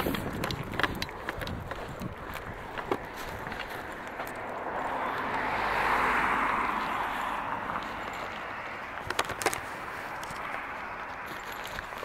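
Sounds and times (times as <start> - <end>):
car passing: 0.0 - 12.0.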